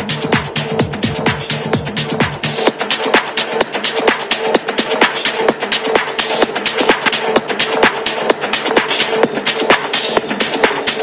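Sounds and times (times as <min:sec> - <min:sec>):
deep kick and bass: 0:00.0 - 0:11.0
house music beat: 0:00.0 - 0:11.0.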